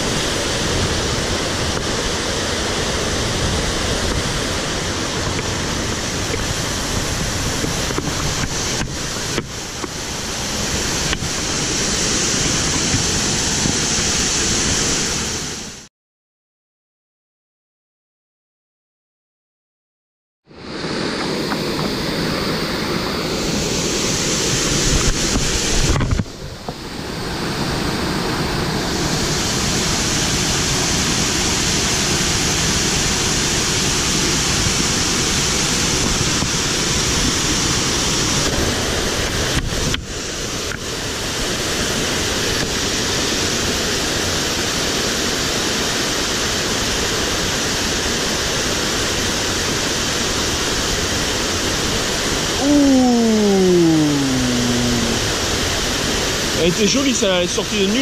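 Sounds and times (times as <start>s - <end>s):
stream rushing over rocks: 0.0s - 15.9s, 20.6s - 58.0s.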